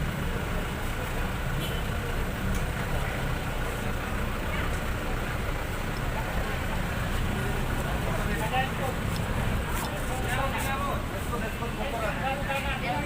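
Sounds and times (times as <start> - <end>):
street traffic noise: 0.0 - 13.0
vehicle engine rumble: 0.0 - 13.0.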